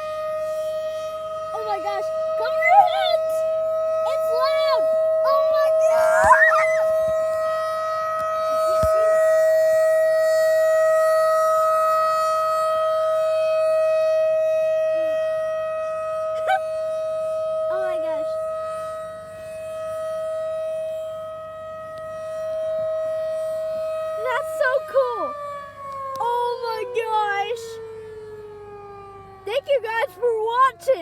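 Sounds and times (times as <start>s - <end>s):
warning siren steady tone: 0.0s - 31.0s.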